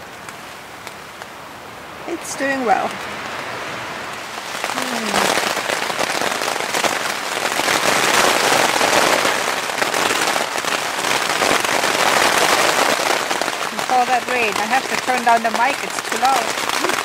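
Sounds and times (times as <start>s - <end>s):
rain drumming on tent fabric: 0.0s - 17.0s.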